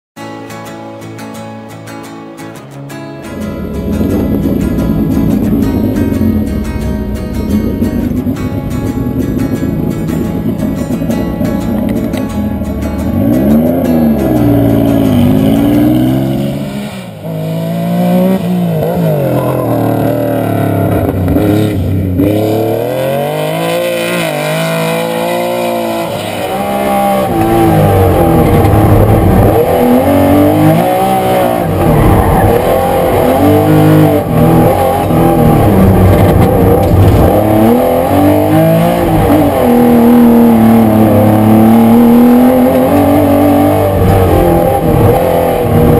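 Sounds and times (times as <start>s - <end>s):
rally car engine revving: 3.2s - 45.9s.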